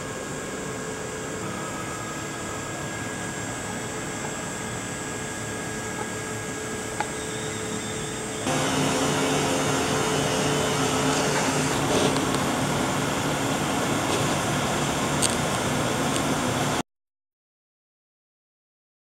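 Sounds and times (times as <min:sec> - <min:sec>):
machine hum and whir: 0:00.0 - 0:16.8.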